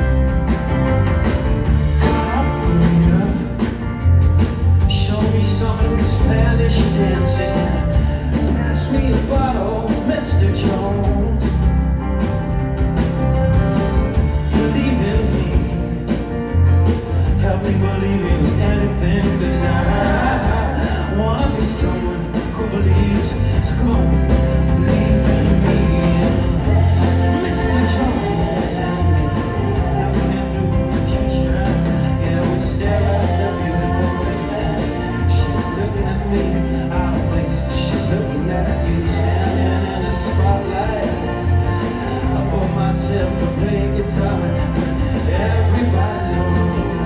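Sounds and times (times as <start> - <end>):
person singing: 0.0 - 12.3, 13.0 - 16.4, 17.2 - 47.0
live rock band playing: 0.0 - 47.0.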